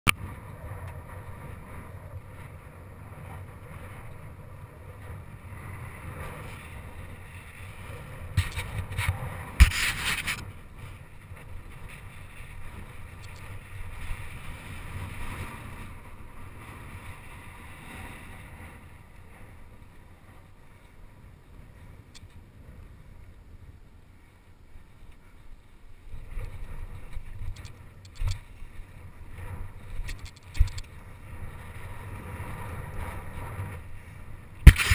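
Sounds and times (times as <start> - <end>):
wind on camera microphone: 0.1 - 34.9
bicycle tyres rolling on dirt: 0.2 - 34.9.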